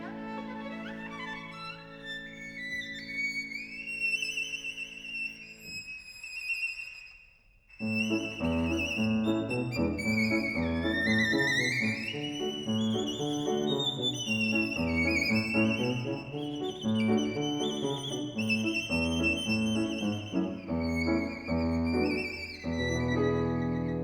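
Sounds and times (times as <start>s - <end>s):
piano accompaniment: 0.0s - 6.0s, 7.8s - 24.0s
violin melody: 0.0s - 24.0s.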